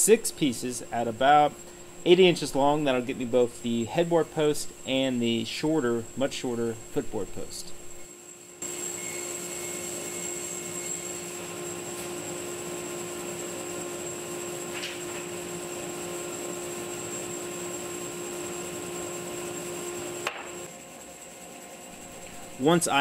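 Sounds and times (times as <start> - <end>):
high whine: 0.0 - 23.0.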